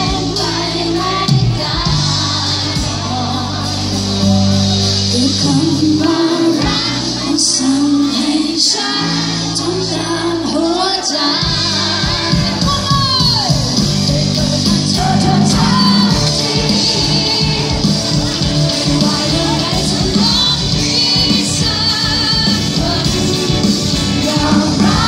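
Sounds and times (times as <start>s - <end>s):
live pop band music: 0.0s - 25.0s
person singing: 0.0s - 25.0s.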